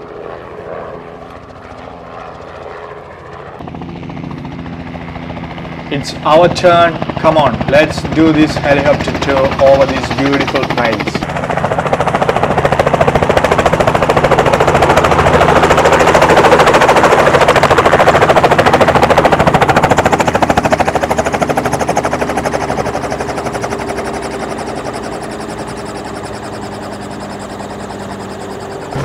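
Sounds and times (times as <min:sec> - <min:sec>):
helicopter engine tone: 0:00.0 - 0:29.0
helicopter rotor beating: 0:00.0 - 0:29.0.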